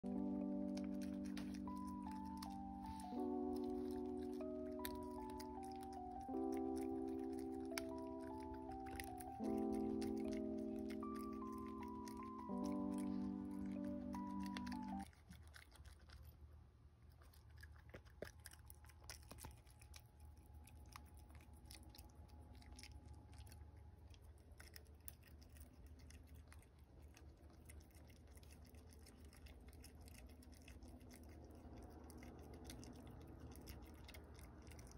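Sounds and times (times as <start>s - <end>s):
low steady hum: 0.0s - 34.9s
raccoon chewing birdseed: 0.0s - 34.9s.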